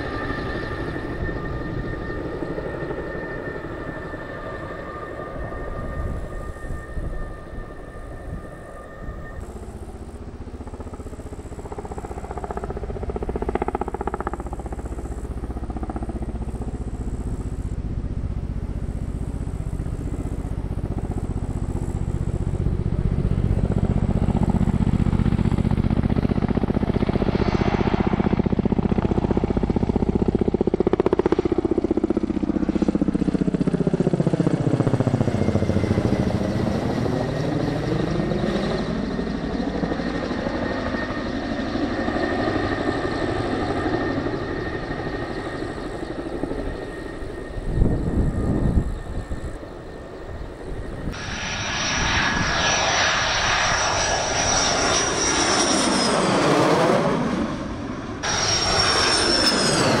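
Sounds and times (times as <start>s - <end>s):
aircraft engine passing overhead: 0.0s - 60.0s.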